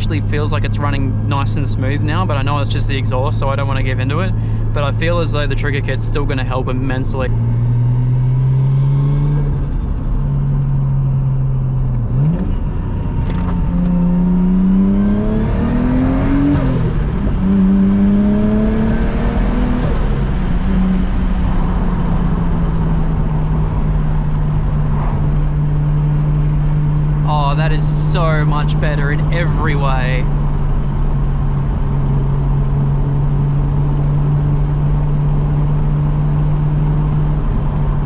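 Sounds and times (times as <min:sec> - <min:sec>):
car engine revving in cabin: 0:00.0 - 0:38.0.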